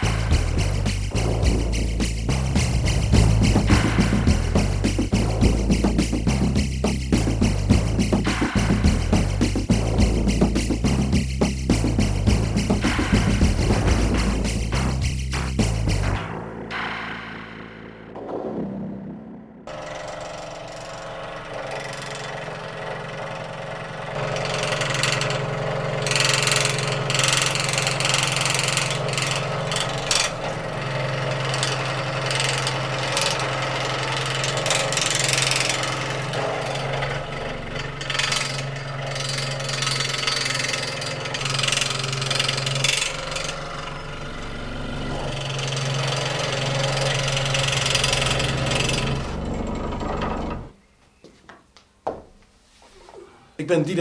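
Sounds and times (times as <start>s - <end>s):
scroll saw cutting wood: 0.0s - 17.0s, 19.7s - 50.8s.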